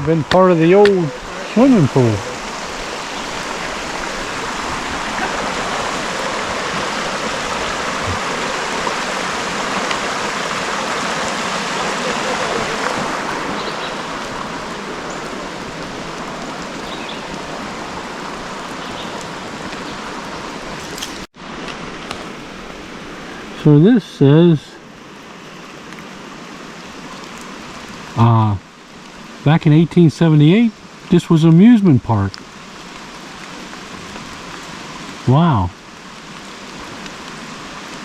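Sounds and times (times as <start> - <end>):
creek water rushing: 0.0 - 38.0.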